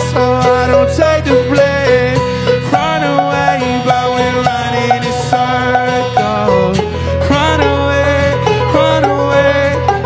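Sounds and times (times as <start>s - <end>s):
banjo picking: 0.0s - 10.0s
man singing: 0.0s - 10.0s
strummed acoustic guitar: 0.0s - 10.0s.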